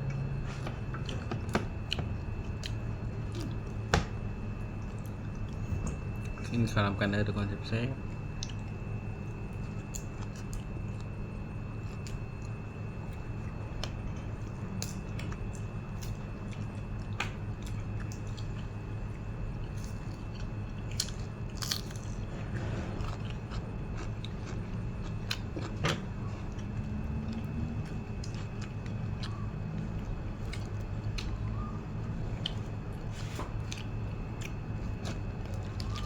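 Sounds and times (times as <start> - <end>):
person chewing food: 0.0 - 6.5, 8.4 - 36.0
steady low hum: 0.0 - 36.0.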